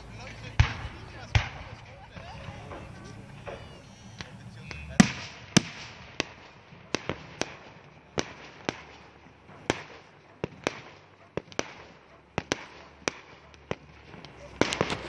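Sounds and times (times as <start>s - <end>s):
fireworks bursting bangs: 0.0s - 15.0s.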